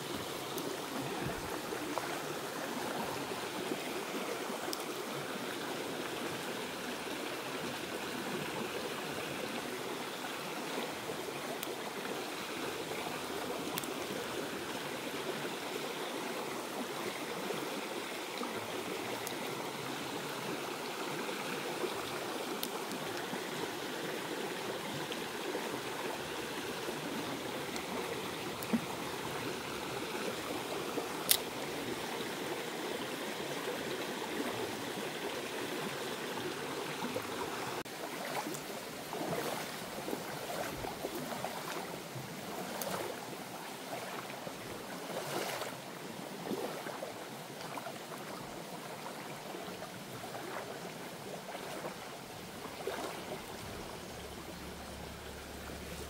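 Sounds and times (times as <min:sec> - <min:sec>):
small stream flowing: 0:00.0 - 0:56.0.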